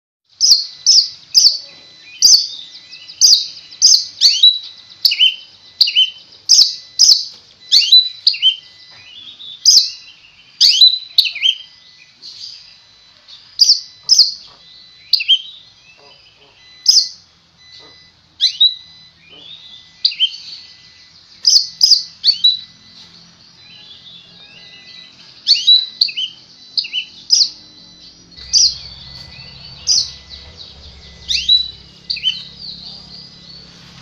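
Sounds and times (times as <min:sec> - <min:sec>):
bird singing sharp phrases: 0:00.4 - 0:34.0.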